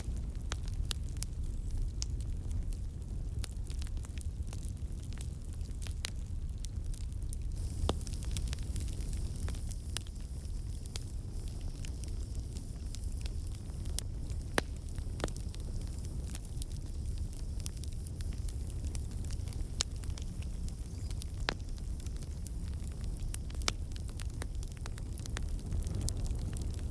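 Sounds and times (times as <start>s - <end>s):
fire crackling and popping: 0.0s - 26.9s
fire flames rumbling: 0.0s - 26.9s.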